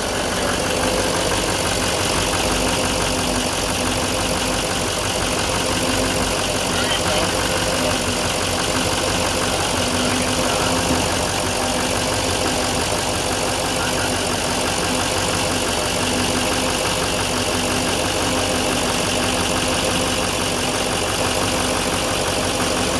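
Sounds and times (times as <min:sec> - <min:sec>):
diesel truck engine idling: 0:00.0 - 0:22.9.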